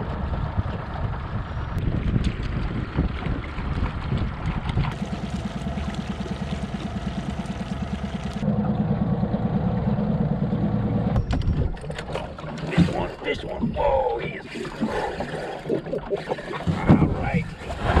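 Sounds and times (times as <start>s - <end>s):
water washing along hull: 0.0s - 8.5s, 10.8s - 18.0s
outboard motor humming: 0.0s - 18.0s.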